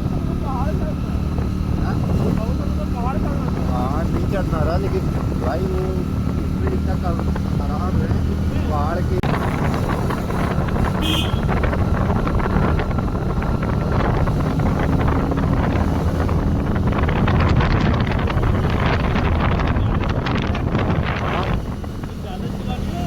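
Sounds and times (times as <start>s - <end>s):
motorcycle engine drone: 0.0s - 23.0s
wind buffeting microphone: 0.0s - 23.0s.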